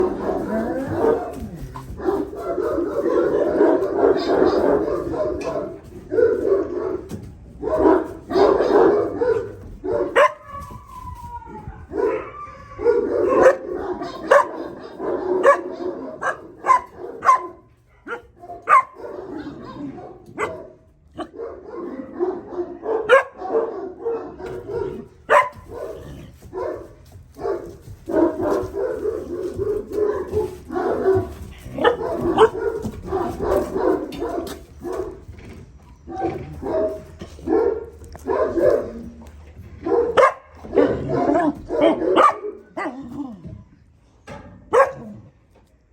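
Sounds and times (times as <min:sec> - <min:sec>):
puppies barking and yipping: 0:00.0 - 0:43.0.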